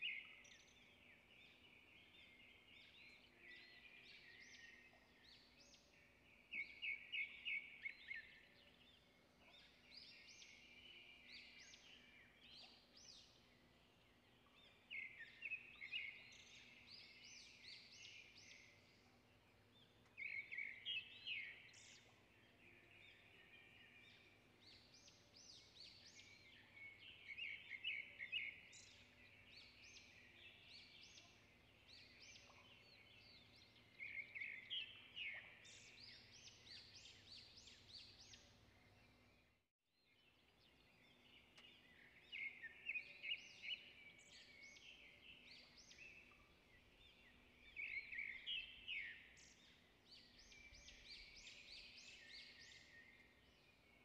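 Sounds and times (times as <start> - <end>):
faint songbird song: 0.0 - 54.0.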